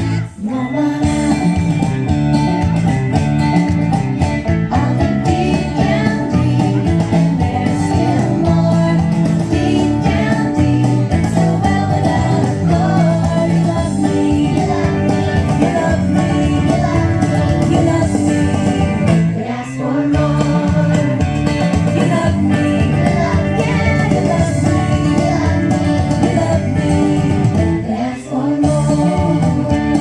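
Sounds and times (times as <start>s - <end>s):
song with singing and instruments: 0.0s - 30.0s.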